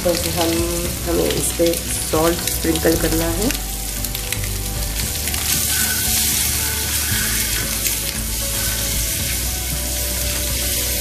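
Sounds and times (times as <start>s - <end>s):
eggs sizzling in hot oil: 0.0s - 11.0s
spatula turning food in pan: 0.0s - 11.0s.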